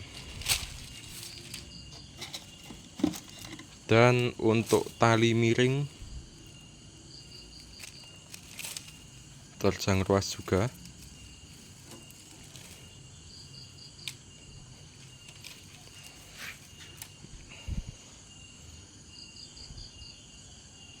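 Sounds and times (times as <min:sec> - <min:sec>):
faint insects chirping: 0:00.0 - 0:21.0.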